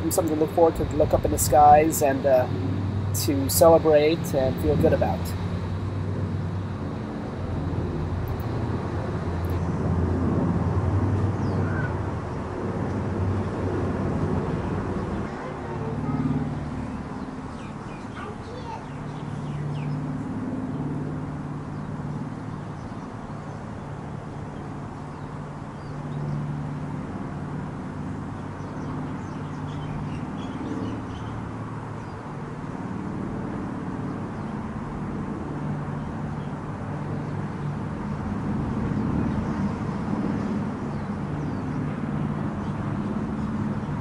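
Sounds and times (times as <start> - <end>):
biplane engine droning overhead: 0.0 - 44.0.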